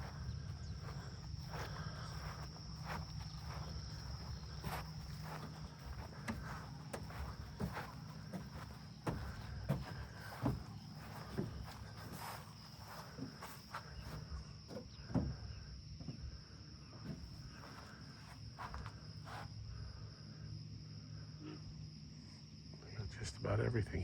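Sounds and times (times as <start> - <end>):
footsteps along a trail: 0.0 - 19.6
high-pitched insect trill: 0.0 - 24.0.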